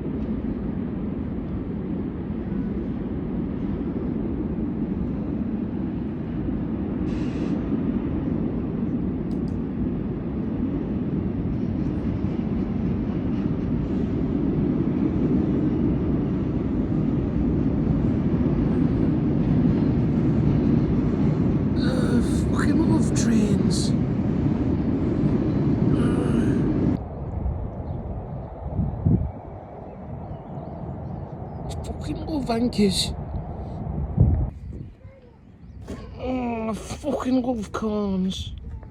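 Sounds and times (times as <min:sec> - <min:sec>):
train passing rumble: 0:00.0 - 0:38.9.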